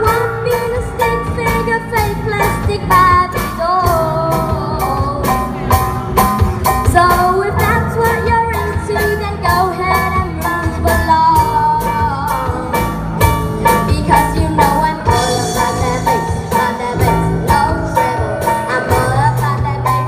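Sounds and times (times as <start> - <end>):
girl singing: 0.0 - 5.6, 6.8 - 20.0
rock band playing pop song: 0.0 - 20.0.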